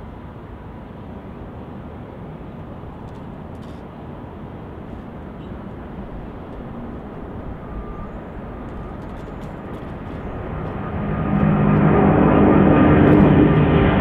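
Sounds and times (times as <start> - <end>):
jet engines at takeoff: 0.0 - 14.0.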